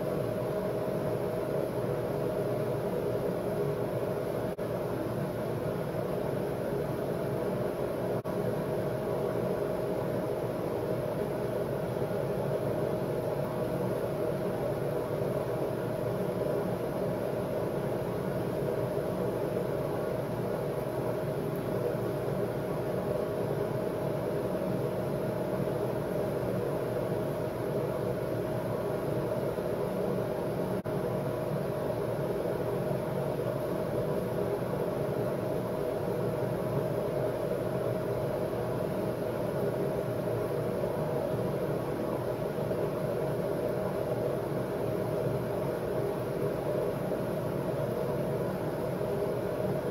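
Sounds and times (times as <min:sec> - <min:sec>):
mechanical hum with hiss: 0:00.0 - 0:49.9.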